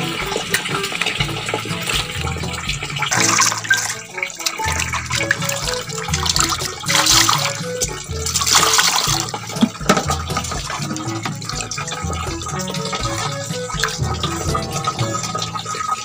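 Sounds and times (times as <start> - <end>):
music with pulsing bass: 0.0 - 16.0
water splashing in metal basin: 0.0 - 16.0.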